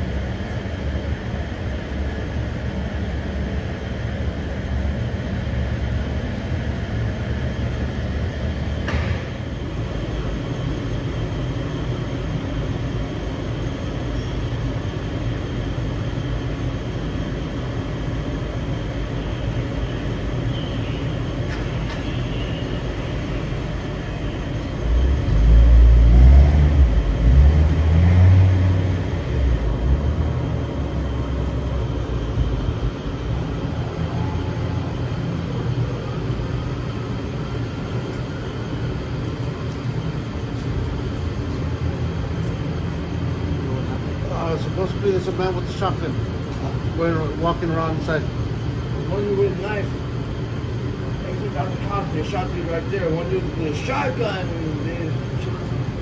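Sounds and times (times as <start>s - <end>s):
street traffic rumble: 0.0s - 56.0s.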